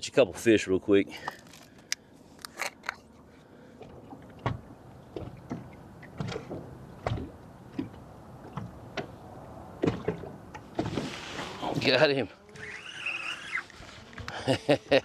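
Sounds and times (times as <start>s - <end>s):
rumble of wind and water: 0.0s - 15.0s.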